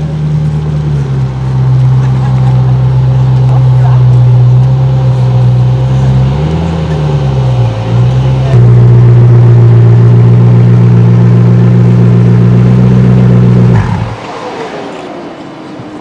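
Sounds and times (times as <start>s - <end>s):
car engine idling: 0.0s - 15.8s.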